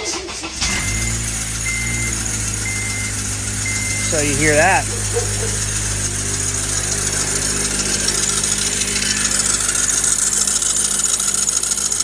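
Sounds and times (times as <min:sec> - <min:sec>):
engine running: 0:00.0 - 0:12.0
belt screeching grind: 0:00.2 - 0:12.0.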